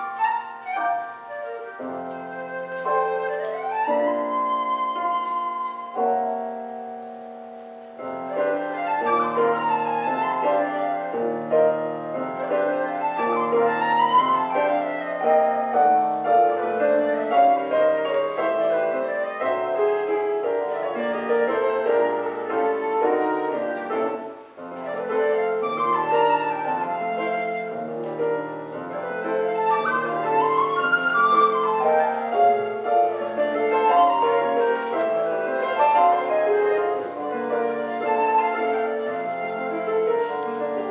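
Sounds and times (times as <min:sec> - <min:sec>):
flute melody: 0:00.0 - 0:40.9
piano accompaniment: 0:00.0 - 0:40.9.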